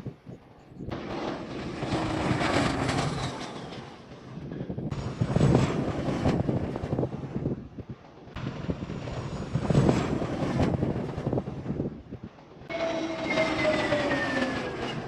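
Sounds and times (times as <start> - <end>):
jet engine rush: 0.0 - 15.0
wind buffeting microphone: 0.0 - 15.0.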